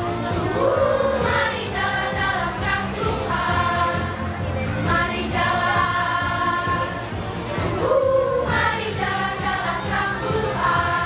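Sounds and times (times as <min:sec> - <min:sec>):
accompaniment with steady beat: 0:00.0 - 0:11.0
children's choir singing: 0:00.0 - 0:11.0.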